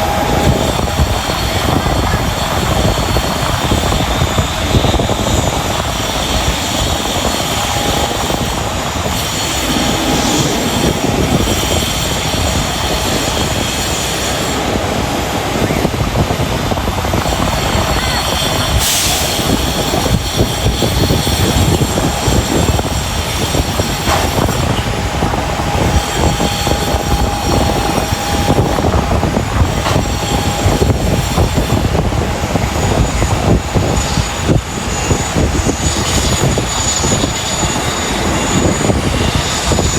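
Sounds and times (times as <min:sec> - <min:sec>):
jet engines rumbling: 0:00.0 - 0:39.9
thin steady whines: 0:00.0 - 0:39.9.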